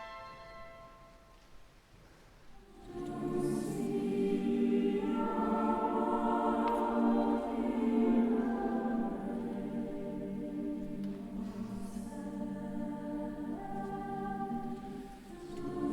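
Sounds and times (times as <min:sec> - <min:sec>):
choir singing sustained chords: 0:02.6 - 0:15.9.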